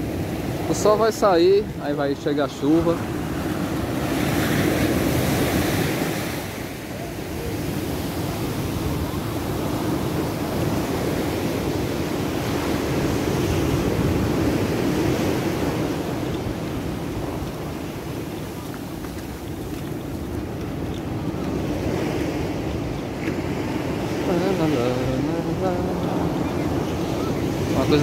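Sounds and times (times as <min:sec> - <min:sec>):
ocean surf rushing onto beach: 0:00.0 - 0:28.0
wind buffeting microphone: 0:01.6 - 0:28.0.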